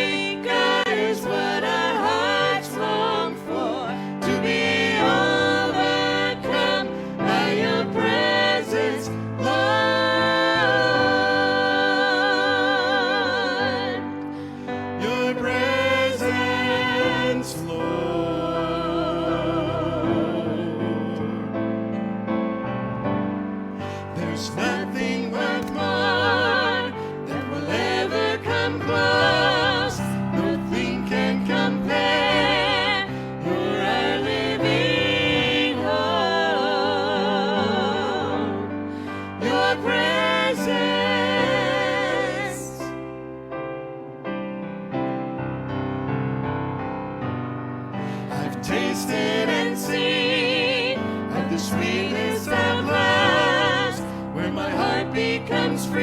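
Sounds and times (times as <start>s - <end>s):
sustained keyboard accompaniment: 0.0s - 56.0s.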